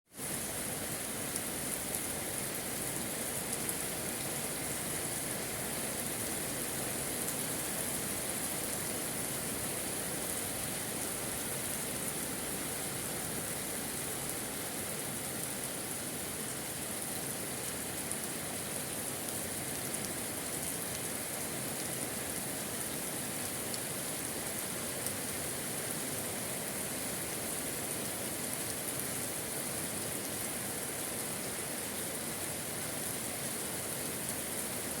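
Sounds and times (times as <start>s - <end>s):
steady rain falling: 0.1s - 35.0s.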